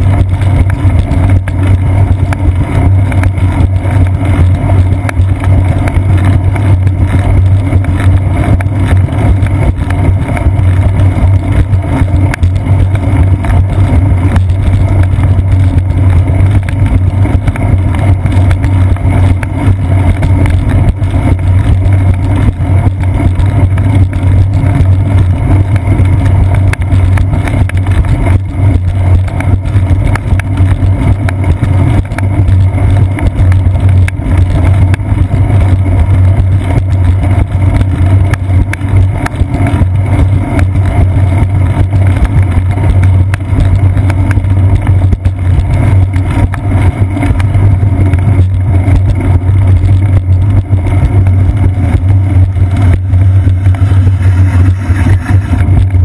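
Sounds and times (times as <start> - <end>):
bicycle vibration rumble: 0.0 - 56.0
wind on camera microphone: 0.0 - 56.0.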